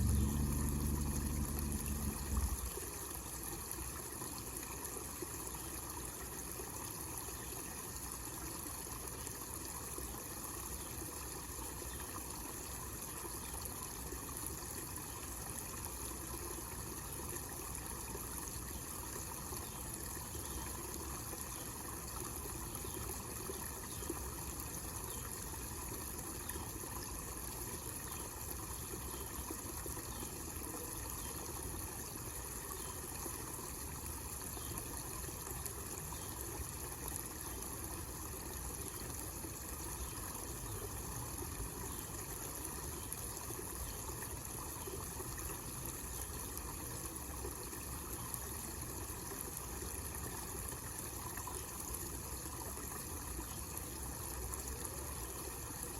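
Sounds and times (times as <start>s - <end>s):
water trickling into pond: 0.0s - 55.9s.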